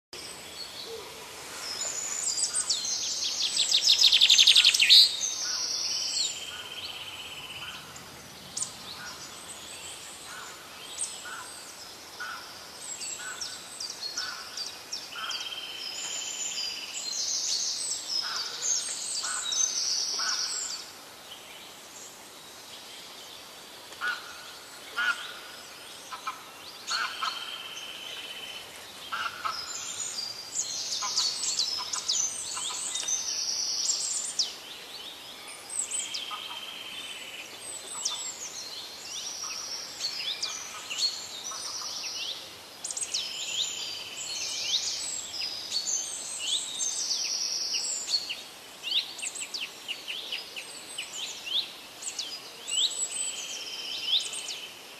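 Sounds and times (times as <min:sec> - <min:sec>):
birds chirping and singing: 0:00.2 - 0:21.8, 0:24.0 - 0:54.8.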